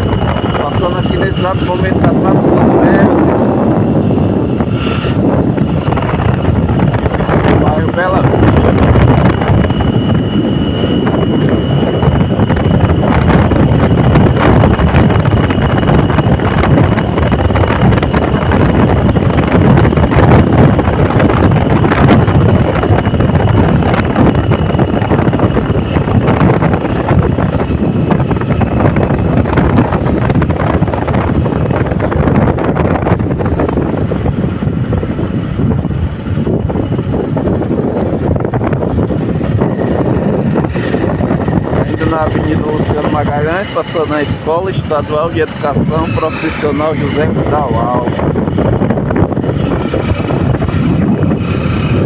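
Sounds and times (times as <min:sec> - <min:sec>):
engine noise: 0:00.0 - 0:52.0
road noise: 0:00.0 - 0:52.0
wind buffeting microphone: 0:00.0 - 0:52.0.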